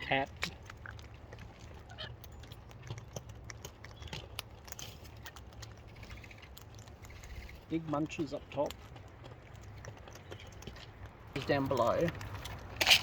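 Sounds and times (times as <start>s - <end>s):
bird crunching food: 0.0s - 13.0s.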